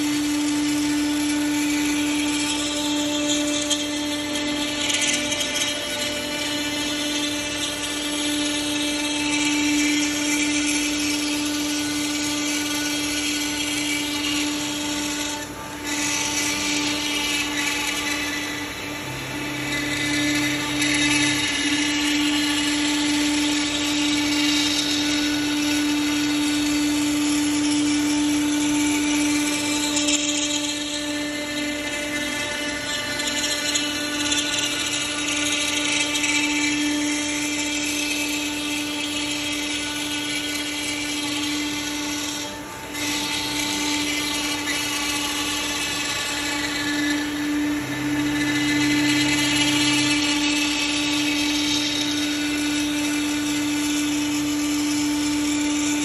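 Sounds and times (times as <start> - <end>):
router spindle whining cutting wood: 0.0 - 56.0.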